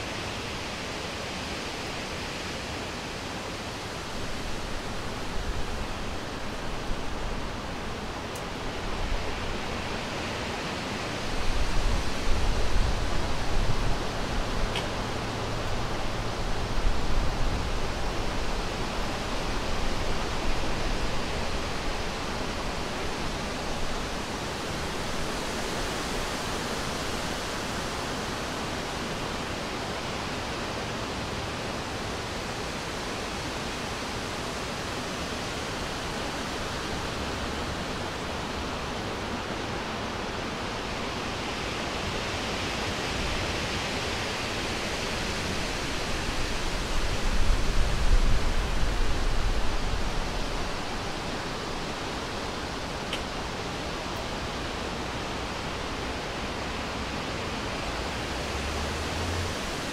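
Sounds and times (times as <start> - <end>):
wind blowing through trees: 0.0 - 59.9.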